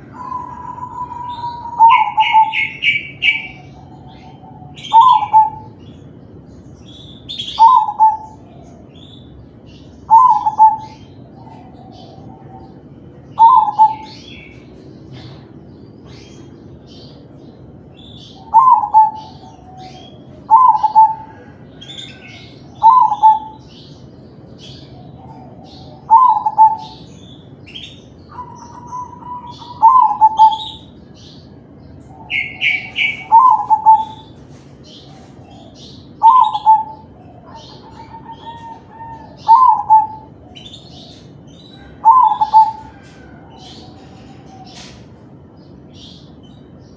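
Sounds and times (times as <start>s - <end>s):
dove cooing song: 0.0s - 46.6s.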